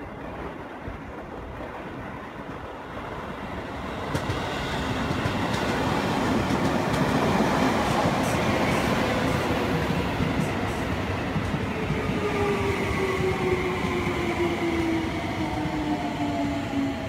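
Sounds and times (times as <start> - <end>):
electric train arriving: 2.0 - 17.0.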